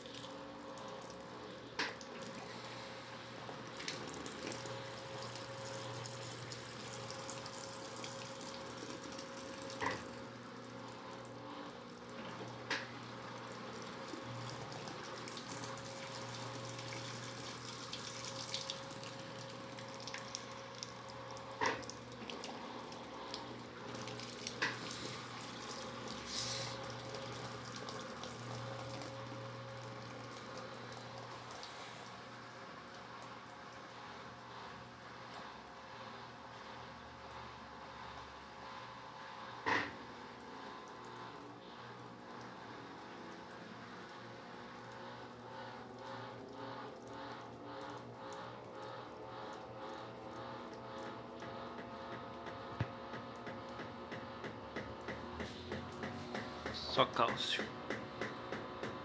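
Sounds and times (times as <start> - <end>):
washing machine motor hum: 0.0 - 59.0
washing machine water splashing: 0.0 - 59.0.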